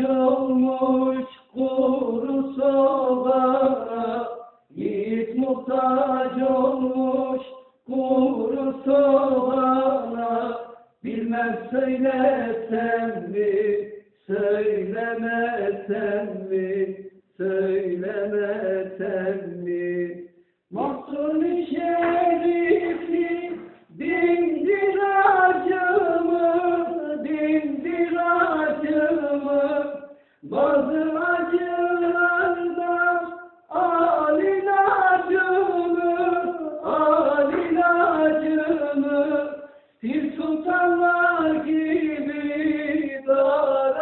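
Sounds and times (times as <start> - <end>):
person singing unaccompanied: 0.0 - 44.0.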